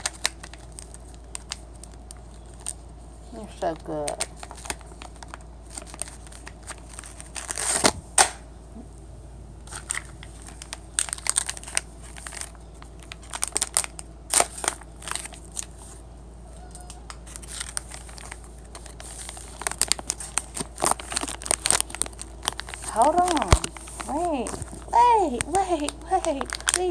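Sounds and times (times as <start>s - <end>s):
plastic packaging crinkling: 0.0s - 8.4s, 9.6s - 26.9s.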